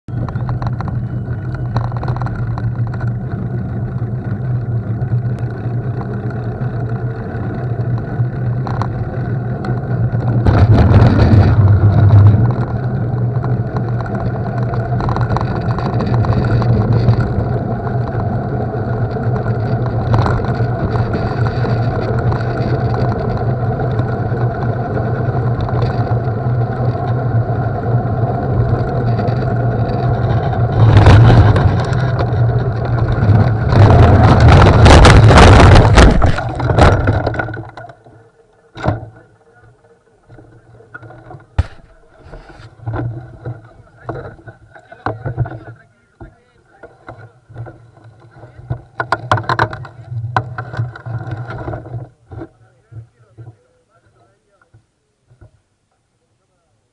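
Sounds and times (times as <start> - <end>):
moving vehicle hum: 0.1 - 45.7.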